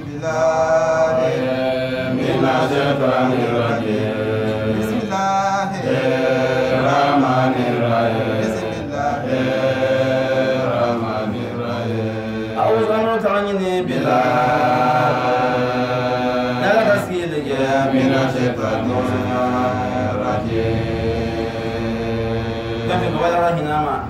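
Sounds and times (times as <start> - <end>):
man chanting: 0.0 - 24.0.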